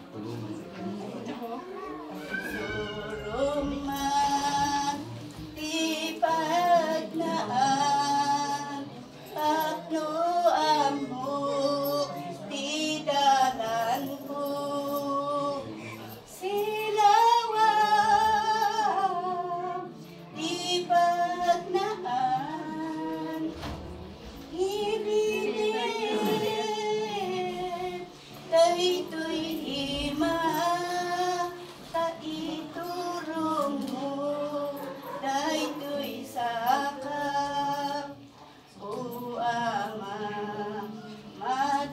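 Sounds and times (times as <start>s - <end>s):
women singing unaccompanied: 2.2s - 41.9s.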